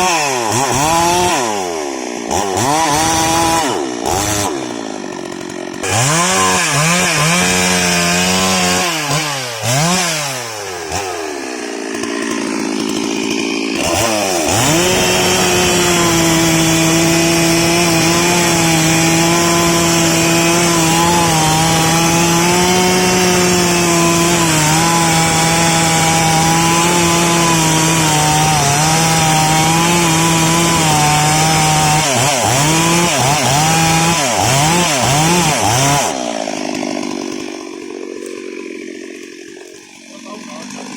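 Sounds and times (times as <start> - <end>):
chainsaw revving and cutting: 0.0 - 40.9.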